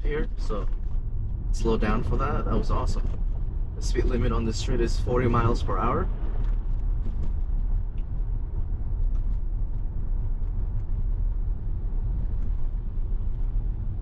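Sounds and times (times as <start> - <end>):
road and tyre noise in car: 0.0 - 14.0.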